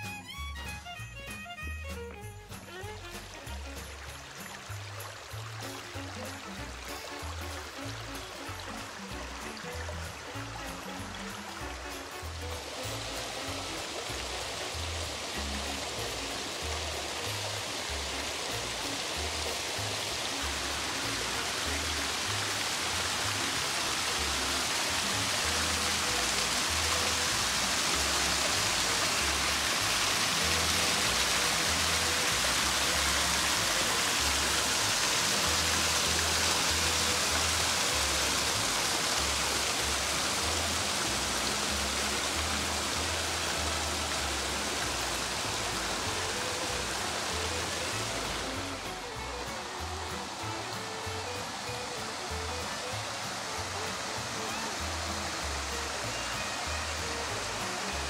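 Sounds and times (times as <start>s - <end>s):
background music with bass line: 0.0s - 58.0s
creek water rushing over rocks: 0.0s - 58.0s.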